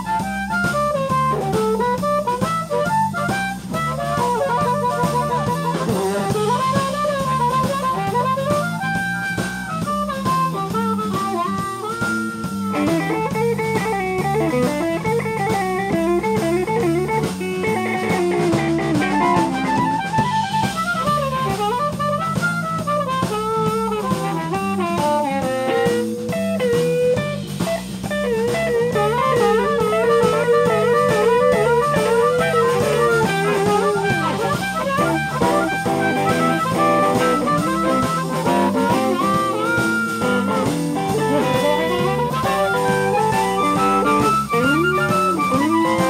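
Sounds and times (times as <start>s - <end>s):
amplified harmonica: 0.0s - 46.0s
bass guitar: 0.0s - 46.0s
drum kit: 0.0s - 46.0s
electric guitar lead: 0.0s - 46.0s.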